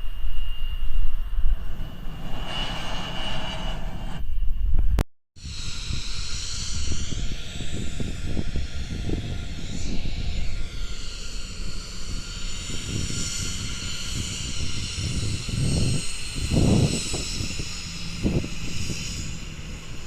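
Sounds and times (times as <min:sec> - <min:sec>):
aircraft engines passing: 0:01.2 - 0:04.2, 0:06.5 - 0:20.0.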